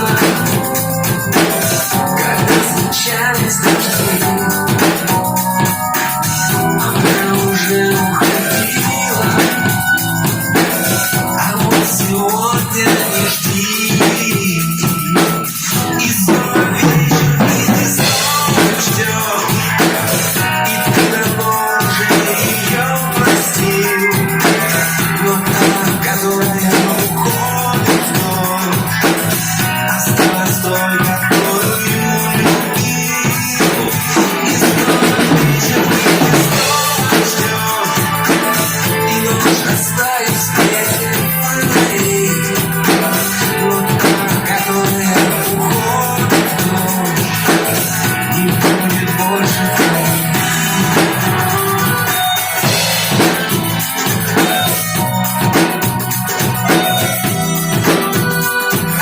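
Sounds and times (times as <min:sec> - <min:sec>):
drum kit beat: 0:00.0 - 0:59.0
sustained backing instruments: 0:00.0 - 0:59.0.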